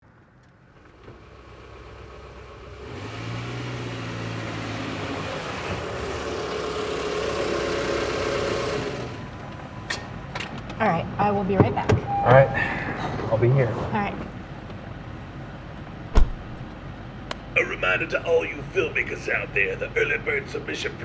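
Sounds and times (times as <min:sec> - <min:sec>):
car engine running: 0:00.7 - 0:21.0.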